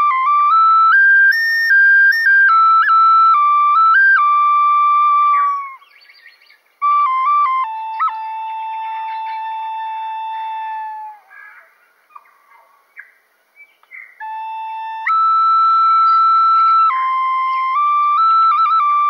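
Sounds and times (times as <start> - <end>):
flute playing slow melody: 0.0 - 6.0, 6.8 - 11.4, 14.2 - 19.0.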